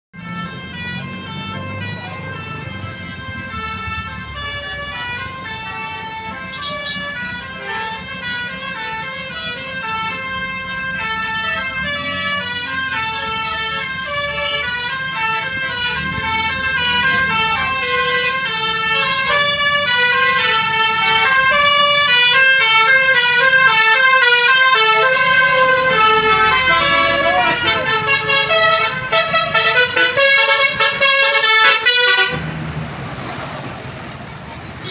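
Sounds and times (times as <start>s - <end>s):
bus horn playing a tune: 0.2s - 32.6s.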